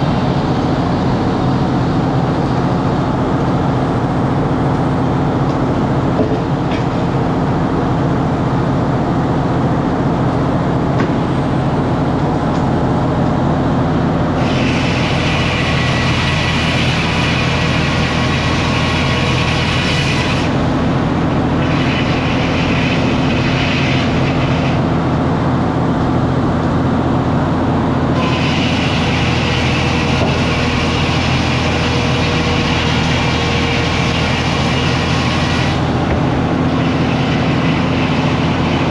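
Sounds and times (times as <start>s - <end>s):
sawmill engine drone: 0.0s - 38.9s.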